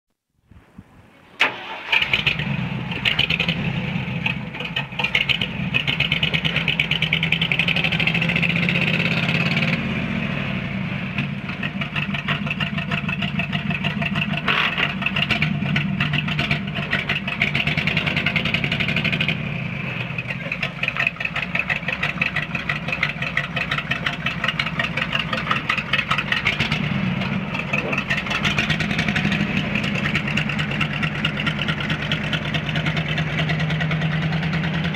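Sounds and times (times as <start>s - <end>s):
truck engine starting and running: 0.5s - 34.9s.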